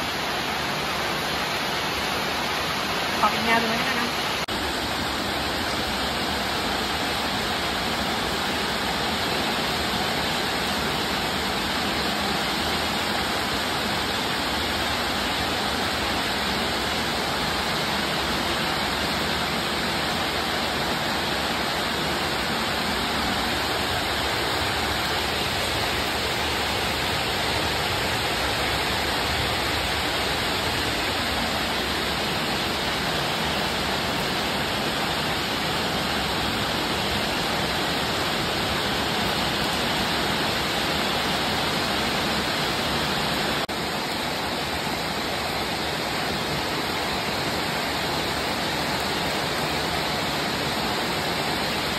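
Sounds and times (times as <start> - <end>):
water rushing: 0.0 - 51.9.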